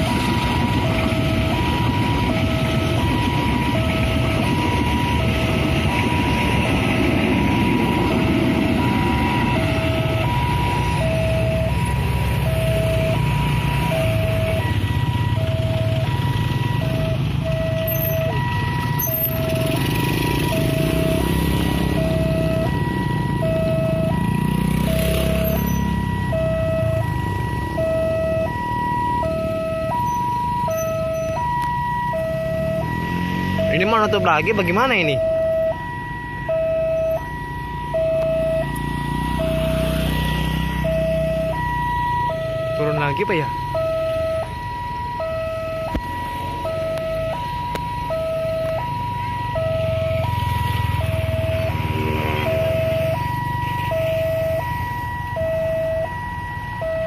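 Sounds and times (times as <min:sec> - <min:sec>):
level crossing two-tone alarm: 0:00.0 - 0:57.0
motorcycle and car engines: 0:00.0 - 0:57.0.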